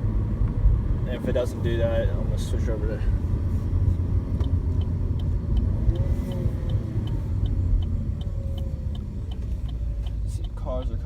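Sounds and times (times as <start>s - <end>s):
road and engine rumble: 0.0s - 11.0s
turn signal ticking: 0.0s - 11.0s.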